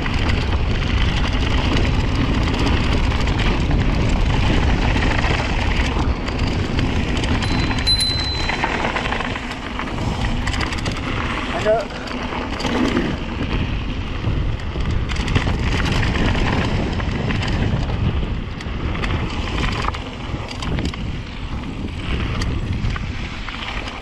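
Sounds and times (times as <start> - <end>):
bike clicks and rattles: 0.0 - 24.0
wind rushing over microphone: 0.0 - 24.0.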